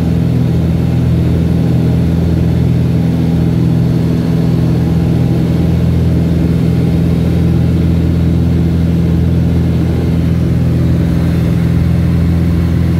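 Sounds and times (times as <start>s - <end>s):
light airplane engine droning: 0.0s - 12.9s.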